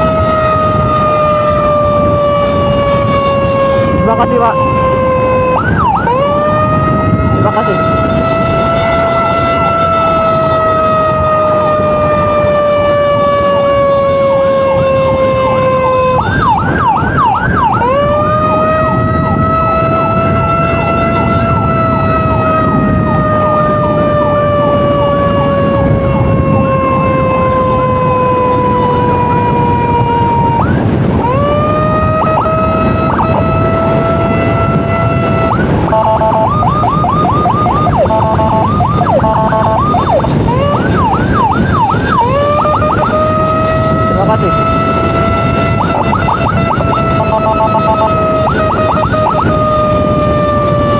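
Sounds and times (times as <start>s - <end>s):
electronic emergency siren: 0.0s - 50.9s
motorcycle road noise: 0.0s - 50.9s.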